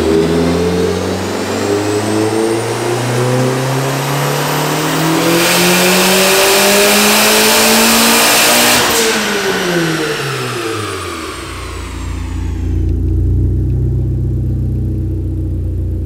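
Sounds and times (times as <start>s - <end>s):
car engine revving at full throttle: 0.0s - 16.0s.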